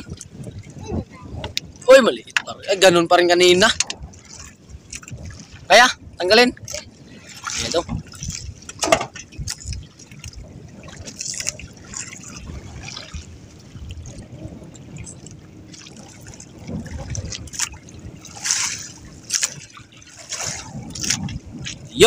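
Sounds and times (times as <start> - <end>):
water splashing against boat hull: 0.0 - 22.0
wind rumbling on microphone: 0.0 - 22.0.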